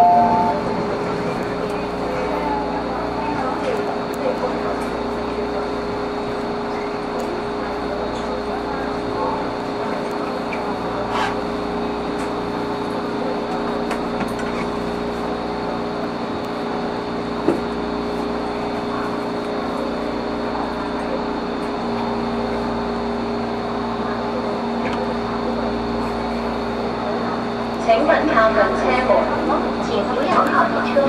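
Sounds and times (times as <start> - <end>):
train air-conditioning hum: 0.0 - 31.0.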